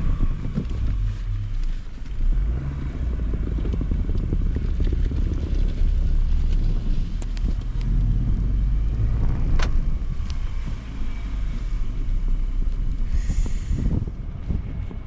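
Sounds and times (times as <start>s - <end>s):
rough irregular crackle: 0.0s - 13.8s
car tyres and engine rumbling: 0.0s - 15.0s.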